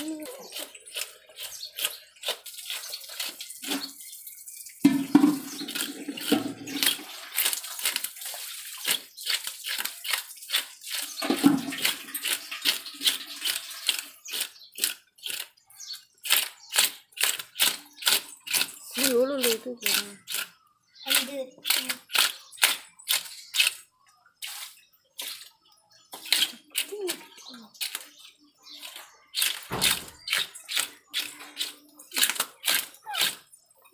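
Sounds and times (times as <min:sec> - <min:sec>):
knife scraping fish scales: 0:00.1 - 0:04.1, 0:05.4 - 0:25.5, 0:26.2 - 0:27.2, 0:27.8 - 0:33.6.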